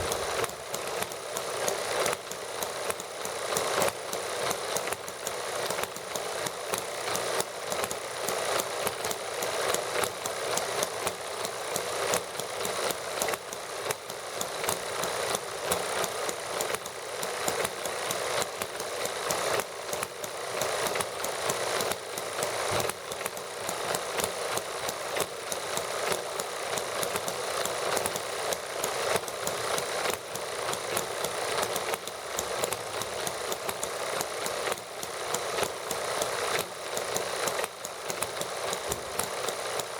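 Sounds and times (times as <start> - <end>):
model gasoline engines running: 0.0 - 39.9.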